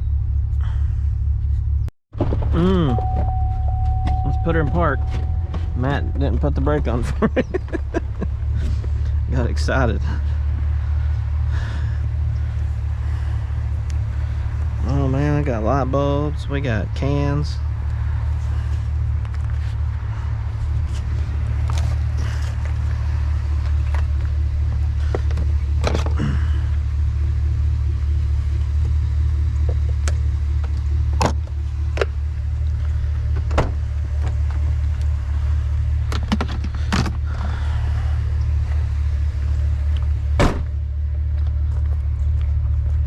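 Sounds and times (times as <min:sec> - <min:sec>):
truck engine idling: 0:00.0 - 0:43.0.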